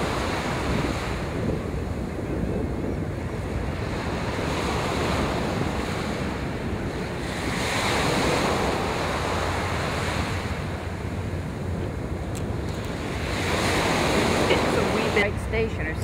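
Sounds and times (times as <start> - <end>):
waves washing close by: 0.0 - 16.0
wind buffeting microphone: 0.0 - 16.0.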